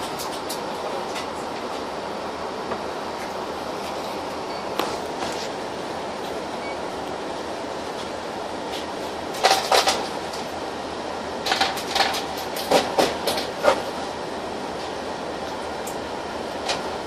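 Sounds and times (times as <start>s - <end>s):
bus drive noise: 0.0s - 17.0s.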